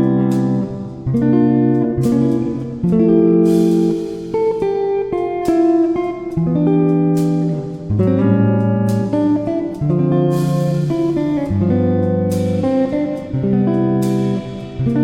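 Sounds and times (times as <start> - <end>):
guitar-led background music: 0.0 - 15.0.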